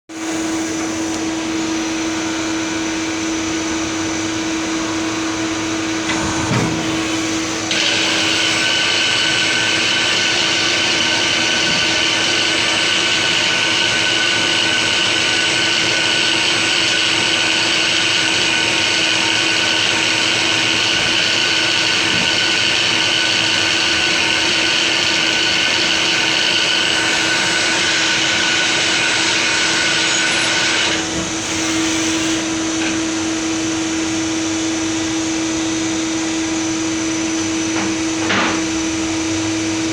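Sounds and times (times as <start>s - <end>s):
machine tool humming and whining: 0.1s - 39.9s.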